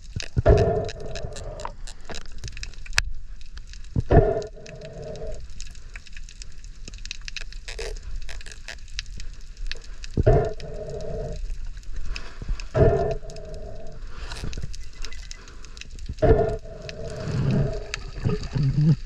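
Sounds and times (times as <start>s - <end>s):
snapping shrimp crackle: 0.0s - 18.9s.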